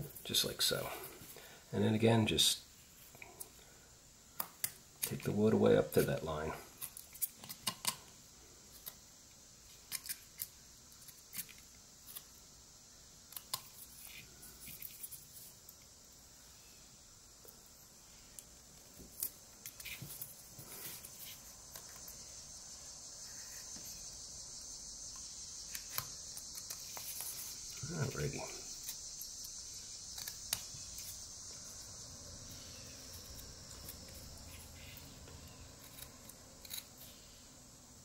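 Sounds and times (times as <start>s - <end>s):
high-pitched hiss: 0.0s - 38.0s.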